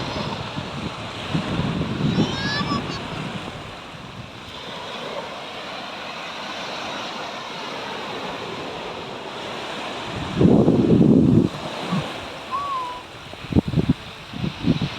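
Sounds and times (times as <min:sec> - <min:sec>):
sea waves washing onto beach: 0:00.0 - 0:14.9.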